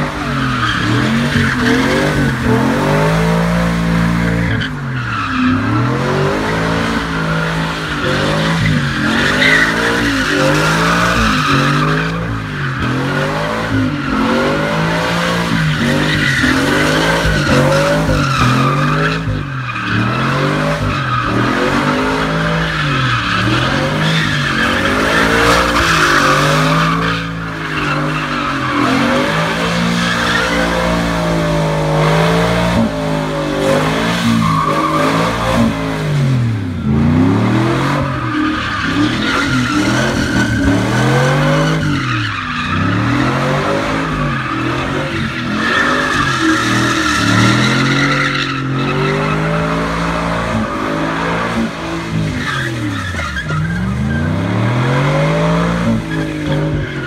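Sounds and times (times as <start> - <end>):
tyres screeching: 0.0 - 35.8, 37.2 - 57.0
truck engine revving: 0.0 - 57.0.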